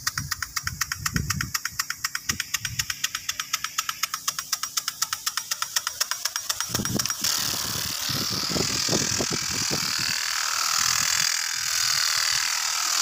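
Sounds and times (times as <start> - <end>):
sprinkler spraying water: 0.0 - 13.0.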